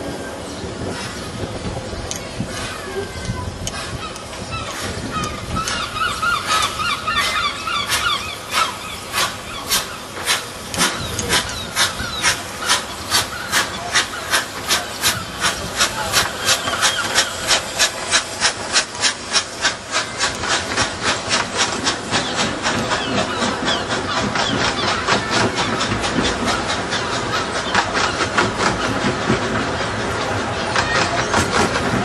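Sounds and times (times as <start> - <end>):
steam hissing: 0.0 - 32.0
steam locomotive chuffing: 0.0 - 32.0.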